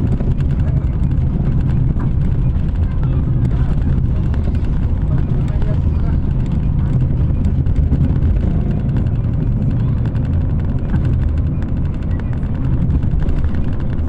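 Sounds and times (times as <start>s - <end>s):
vehicle interior rumble: 0.0s - 14.0s.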